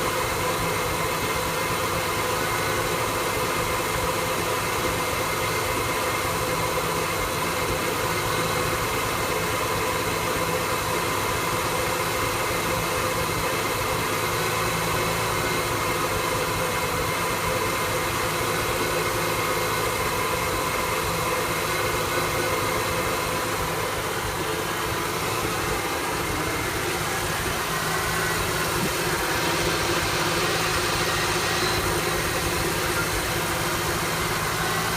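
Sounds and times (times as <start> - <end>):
truck engine rough idle: 0.0 - 34.9.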